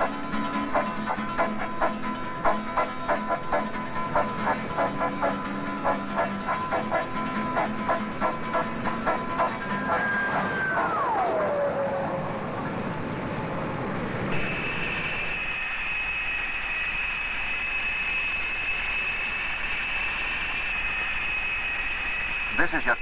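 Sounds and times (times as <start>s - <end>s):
jet airliner engines whining: 0.0s - 23.0s.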